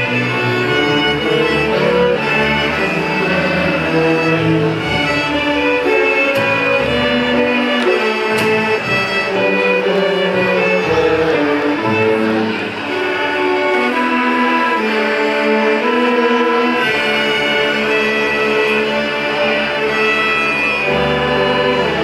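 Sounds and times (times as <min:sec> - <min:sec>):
string orchestra playing: 0:00.0 - 0:22.0.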